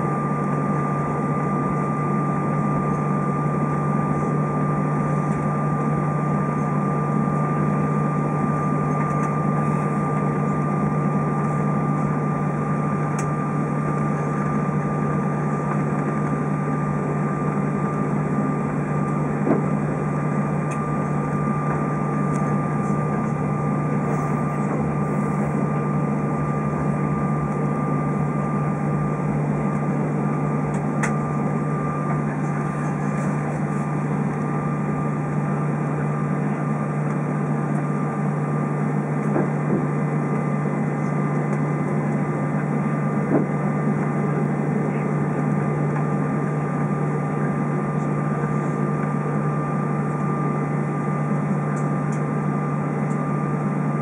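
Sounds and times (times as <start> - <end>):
aircraft engines idling hum and whine: 0.0 - 54.0.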